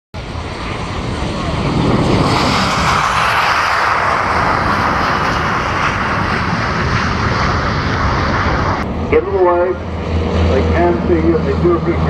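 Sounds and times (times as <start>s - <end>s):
aircraft engines running: 0.2s - 12.0s.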